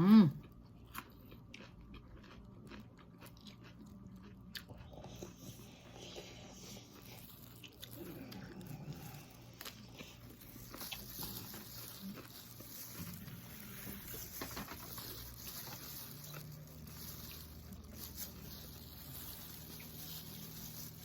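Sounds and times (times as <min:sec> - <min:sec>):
low steady hum: 0:00.0 - 0:21.0
person chewing: 0:00.0 - 0:21.0.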